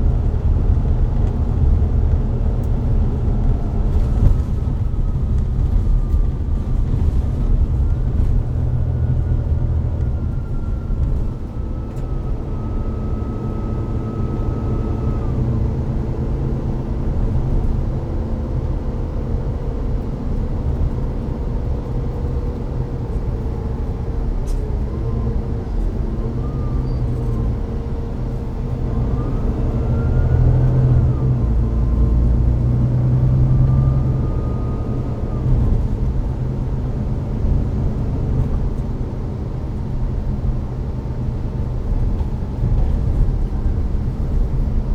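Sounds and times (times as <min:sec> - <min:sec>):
bus diesel engine drone: 0:00.0 - 0:44.9
gearbox whine: 0:00.0 - 0:44.9.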